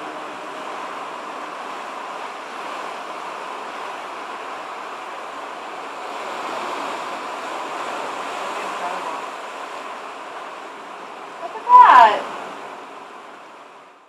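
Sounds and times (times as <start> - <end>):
wind and sea water rushing: 0.0 - 14.0.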